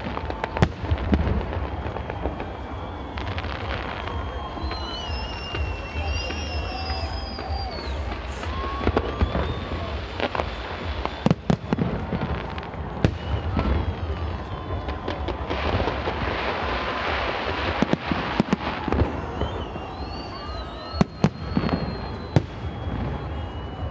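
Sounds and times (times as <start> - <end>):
firework crackling hiss: 0.0 - 23.5
firework bangs: 0.0 - 23.9.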